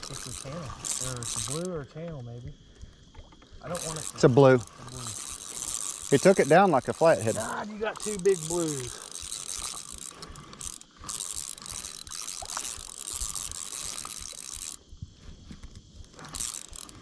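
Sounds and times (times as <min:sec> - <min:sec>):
fishing reel whirring: 0:00.0 - 0:02.0, 0:02.6 - 0:17.0.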